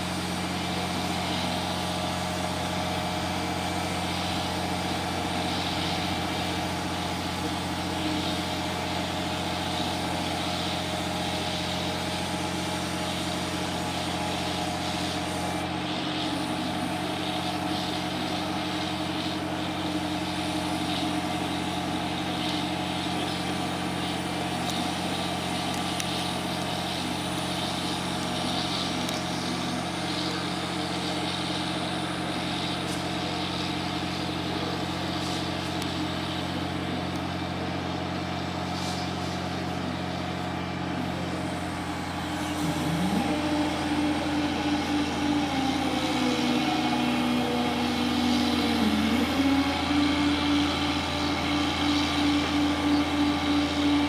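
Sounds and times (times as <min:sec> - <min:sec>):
steady engine drone: 0:00.0 - 0:54.0.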